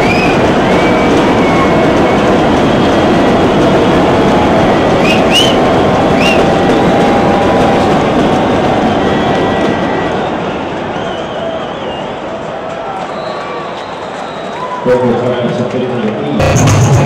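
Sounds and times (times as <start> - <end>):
shrill whistles: 0.0 - 14.9
stadium crowd din: 0.0 - 17.0.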